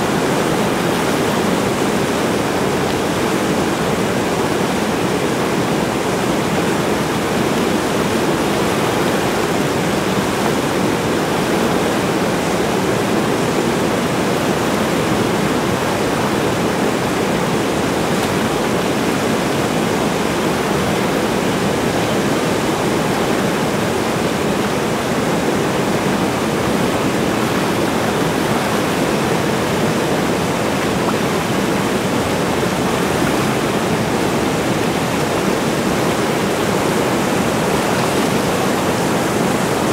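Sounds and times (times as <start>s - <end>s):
rapids rushing over boulders: 0.0s - 39.9s.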